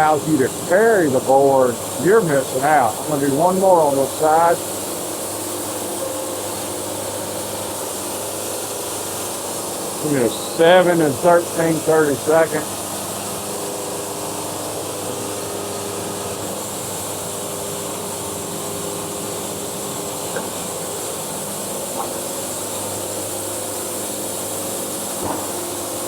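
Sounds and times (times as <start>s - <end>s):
band sawmill engine running: 0.0s - 26.0s.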